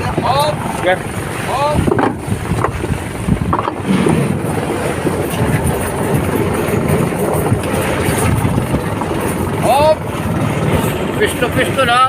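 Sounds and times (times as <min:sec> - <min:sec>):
boat engine rumble: 0:00.0 - 0:12.0
choppy water: 0:00.0 - 0:12.0
wind buffeting microphone: 0:00.0 - 0:12.0.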